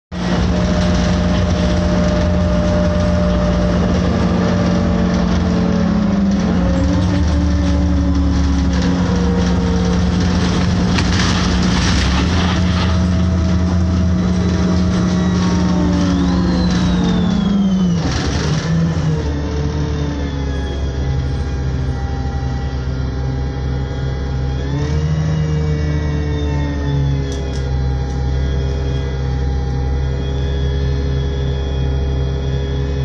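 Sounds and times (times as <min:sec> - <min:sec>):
bus engine humming and whining: 0:00.1 - 0:33.0.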